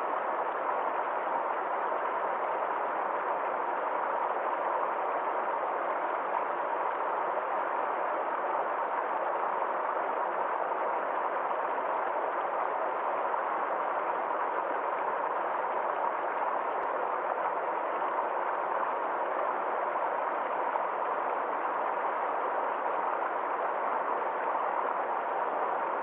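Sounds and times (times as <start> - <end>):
forest stream flowing: 0.0 - 26.0.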